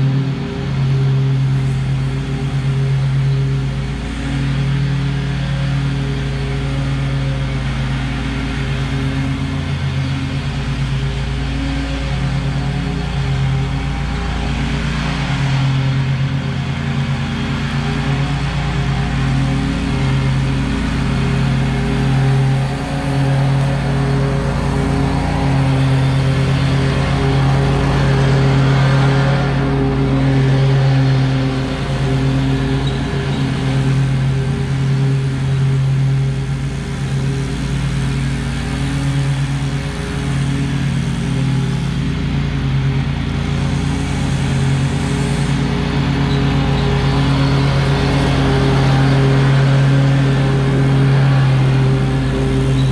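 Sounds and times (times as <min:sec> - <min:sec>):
lawn mower engine running: 0:00.0 - 0:52.9.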